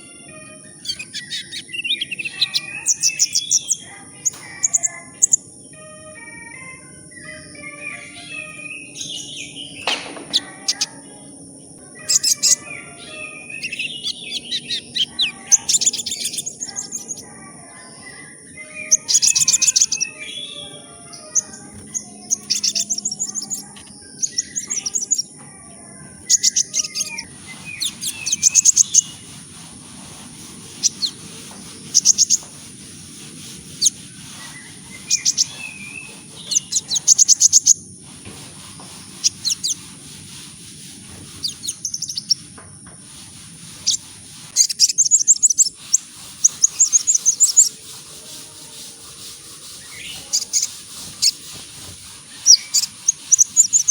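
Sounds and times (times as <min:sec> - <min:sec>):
bird ticking and twittering song: 0:00.0 - 0:53.9.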